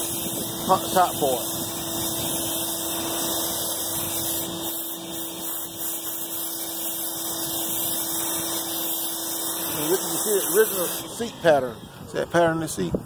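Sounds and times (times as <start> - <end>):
pressure washer water spray: 0.0 - 11.6.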